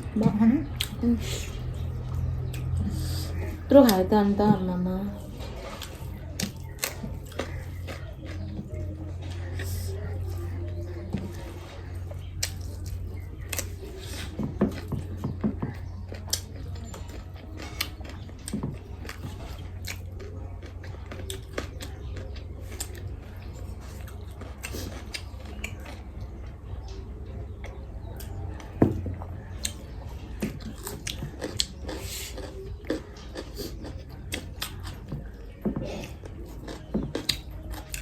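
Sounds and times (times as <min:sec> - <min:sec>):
close chewing and eating: 0:00.0 - 0:38.0.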